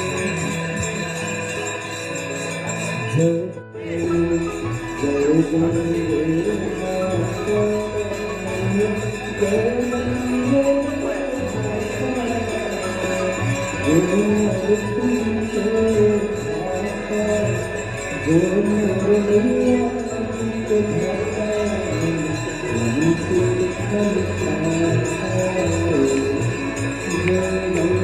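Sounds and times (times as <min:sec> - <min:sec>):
jingling percussion: 0:00.0 - 0:28.0
person singing devotional song: 0:00.0 - 0:28.0
ringing tones: 0:00.0 - 0:28.0.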